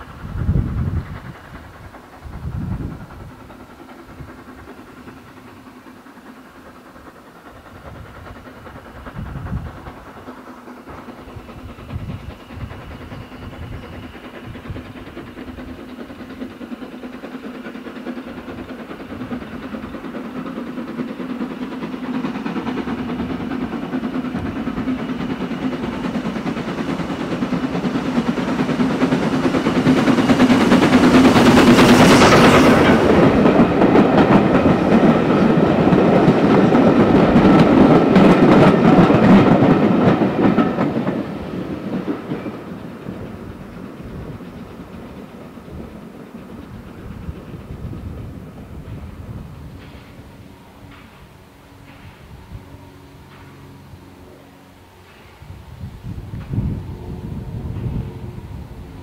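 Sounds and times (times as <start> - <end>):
steam locomotive passing: 0.0 - 59.0.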